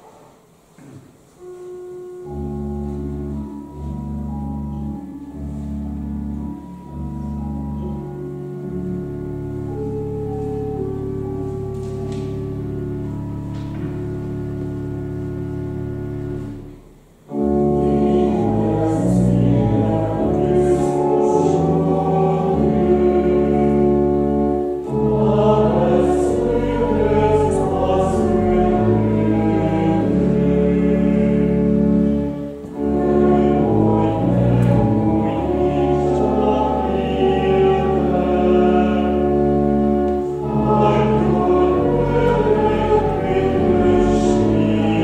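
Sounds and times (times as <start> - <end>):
church organ chords: 0.0 - 45.0
congregation singing a hymn: 0.0 - 45.0.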